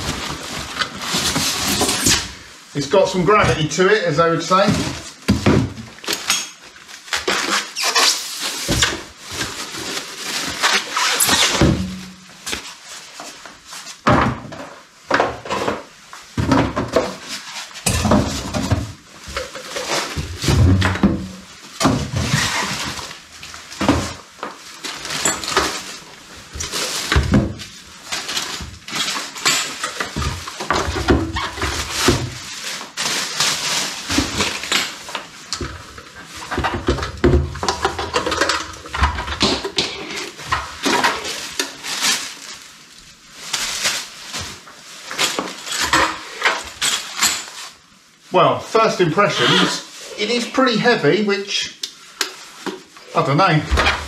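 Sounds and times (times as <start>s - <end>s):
polystyrene packing pulled off: 0.0s - 14.0s, 17.1s - 36.8s, 39.6s - 54.0s
plastic wrapping rustling: 0.0s - 54.0s.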